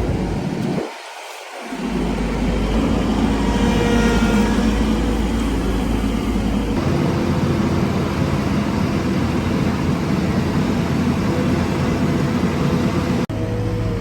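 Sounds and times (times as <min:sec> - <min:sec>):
heavy construction machinery running: 0:00.0 - 0:14.0.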